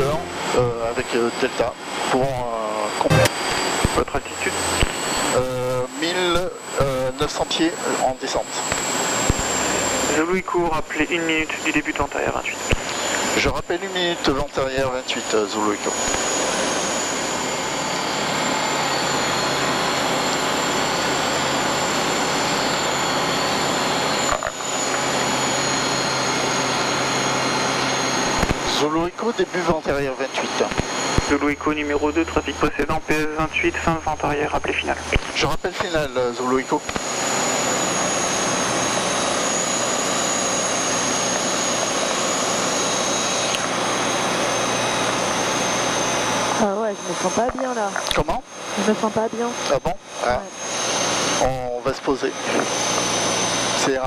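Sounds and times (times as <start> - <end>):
aircraft engine and propeller drone: 0.0 - 54.0
high whine: 0.0 - 54.0.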